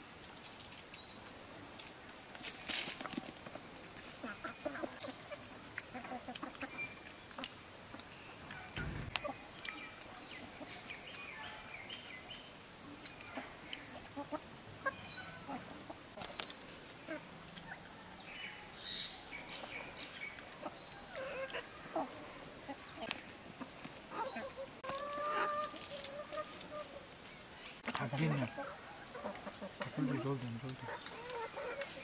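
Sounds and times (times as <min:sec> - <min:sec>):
chickens clucking: 0:02.7 - 0:32.0.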